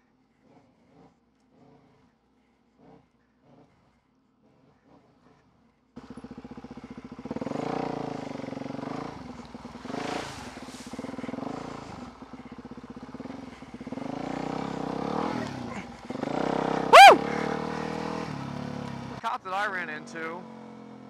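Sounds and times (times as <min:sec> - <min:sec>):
dirt bike engine revving: 0:00.3 - 0:21.0.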